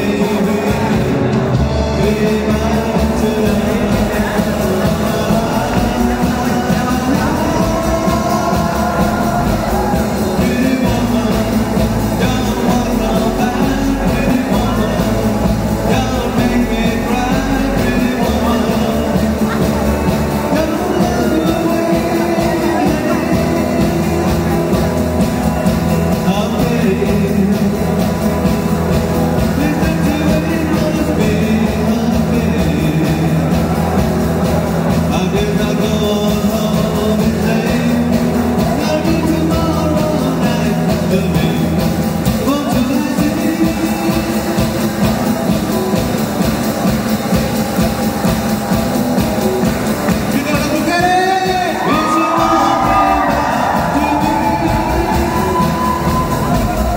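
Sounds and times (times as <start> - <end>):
bass guitar: 0.0 - 56.9
drum kit: 0.0 - 56.9
electric guitars: 0.0 - 56.9
live rock band playing: 0.0 - 56.9.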